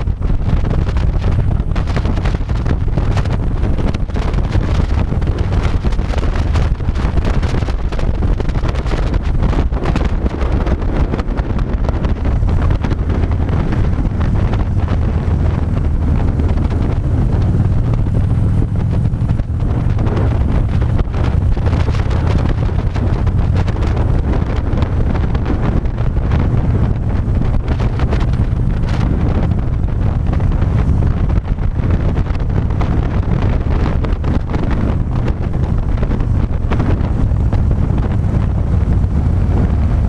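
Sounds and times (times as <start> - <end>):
motorcycle engine running: 0.0 - 40.0
wind buffeting microphone: 0.0 - 40.0.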